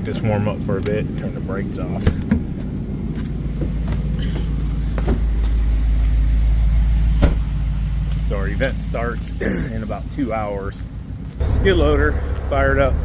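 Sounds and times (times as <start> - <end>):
engine idling with deep rumble: 0.0 - 13.0.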